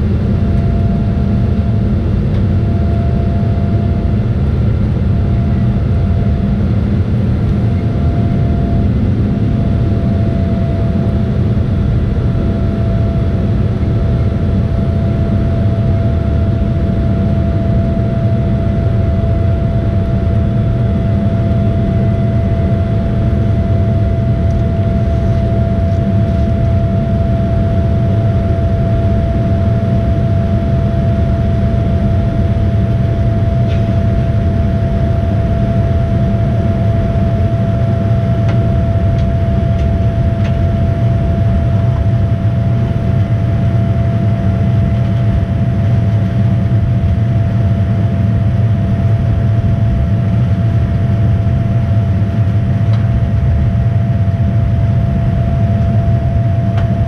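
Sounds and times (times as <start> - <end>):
jet engine rumble and whine in cabin: 0.0 - 57.0.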